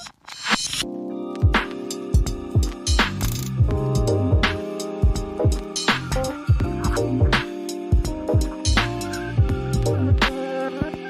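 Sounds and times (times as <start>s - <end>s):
music with deep kick drums: 1.4s - 11.0s.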